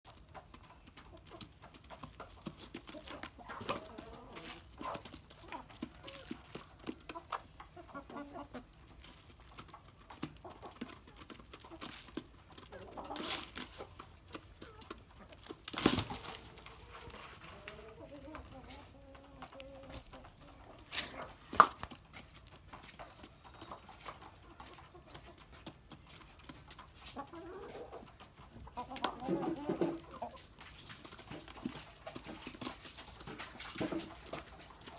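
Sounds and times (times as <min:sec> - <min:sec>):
chickens clucking: 0:00.1 - 0:34.9.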